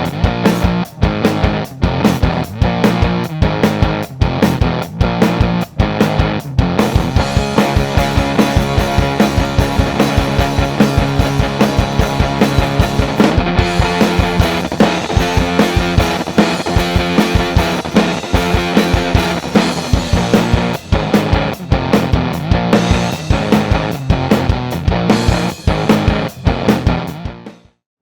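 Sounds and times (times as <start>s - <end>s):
distorted electric guitar riff: 0.0s - 27.7s
drum kit beat: 0.0s - 27.7s.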